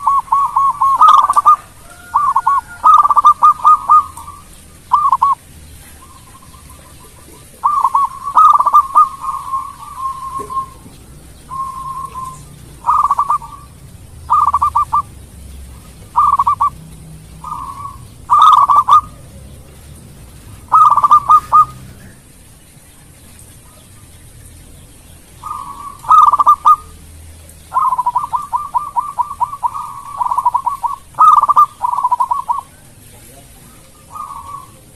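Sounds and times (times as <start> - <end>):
dove cooing: 0.0 - 22.3, 25.4 - 27.0, 27.7 - 34.9.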